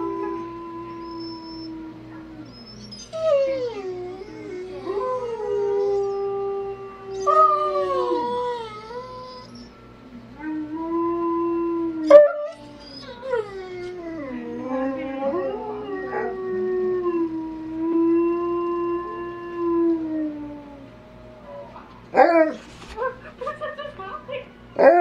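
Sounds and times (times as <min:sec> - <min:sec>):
dogs howling: 0:00.0 - 0:09.8, 0:10.4 - 0:22.7.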